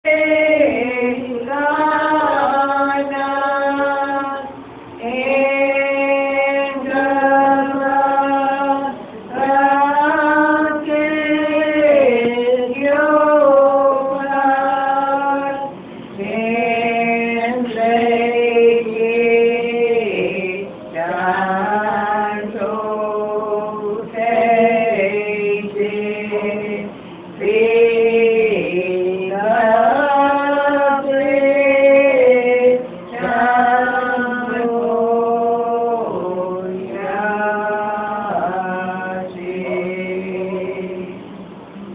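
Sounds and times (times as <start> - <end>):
congregation singing a hymn: 0.0 - 41.9.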